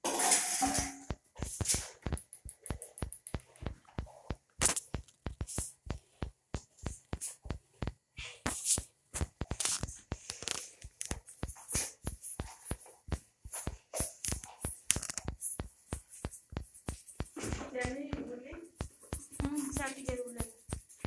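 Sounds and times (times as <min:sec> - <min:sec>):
rustling noise: 0:00.1 - 0:21.0
electronic music with clicking beat: 0:00.6 - 0:21.0.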